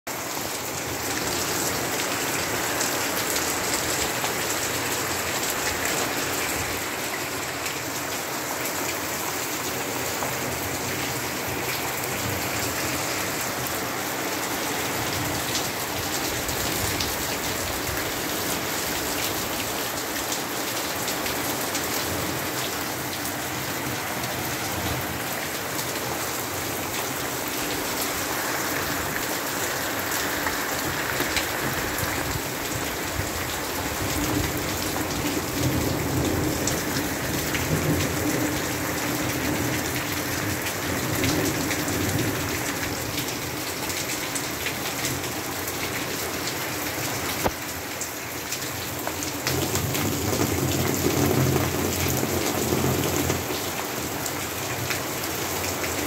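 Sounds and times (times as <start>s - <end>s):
steady rain falling: 0.1s - 56.0s.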